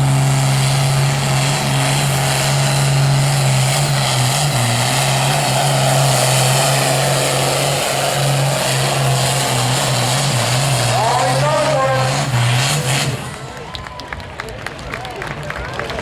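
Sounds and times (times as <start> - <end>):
engine droning at full throttle: 0.0 - 16.0.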